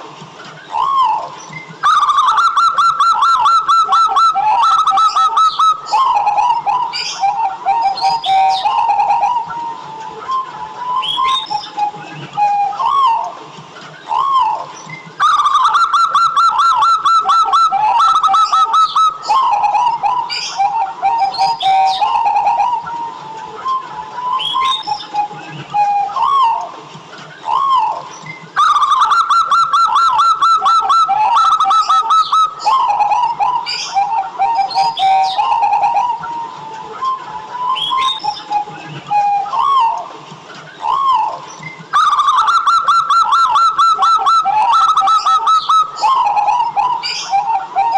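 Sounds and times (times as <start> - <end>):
dove rolling cooing song: 0.0 - 47.9.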